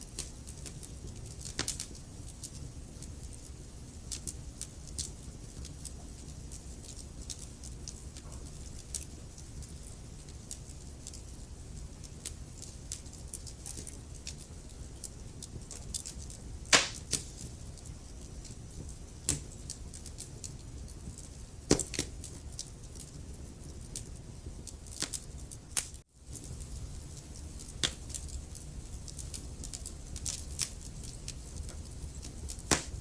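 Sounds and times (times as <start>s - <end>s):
logs crackling and popping: 0.0s - 33.0s
low rumble of flames: 0.0s - 33.0s.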